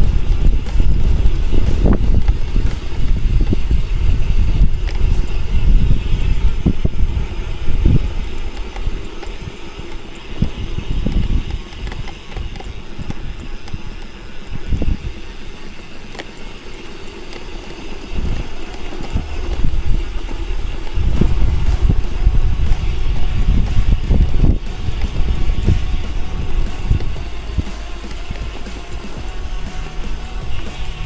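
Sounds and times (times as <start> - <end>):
bicycle tyre noise on concrete: 0.0 - 31.0
wind buffeting microphone: 0.0 - 31.0.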